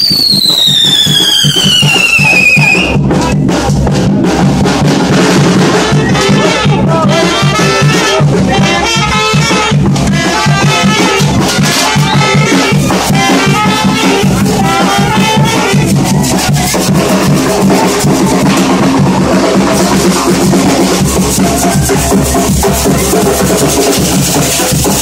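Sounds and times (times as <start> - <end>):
music with steady drum beat: 0.0 - 25.0.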